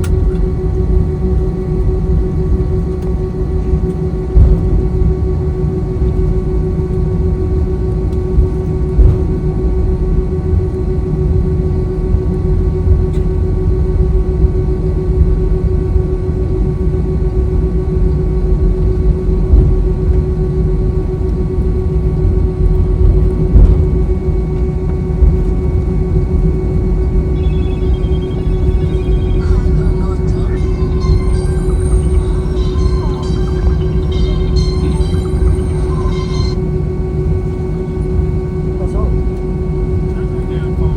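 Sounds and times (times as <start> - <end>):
jet engine cabin rumble: 0.0 - 14.6, 17.6 - 40.9.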